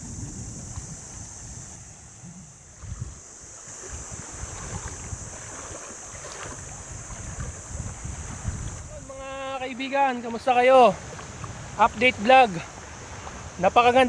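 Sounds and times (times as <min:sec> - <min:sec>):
steady high hiss: 0:00.0 - 0:14.0
waves lapping on beach: 0:00.0 - 0:14.0
wind on microphone: 0:00.0 - 0:14.0.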